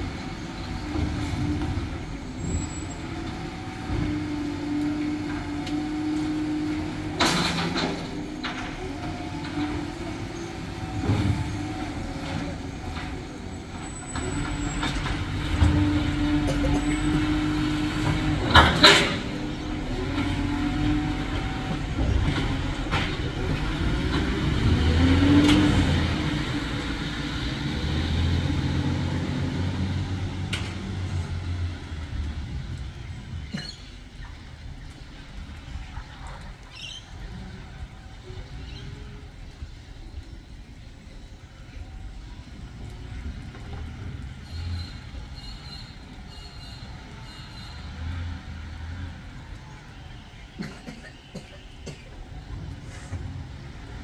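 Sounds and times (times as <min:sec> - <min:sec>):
truck engine rumble: 0:00.0 - 0:54.0.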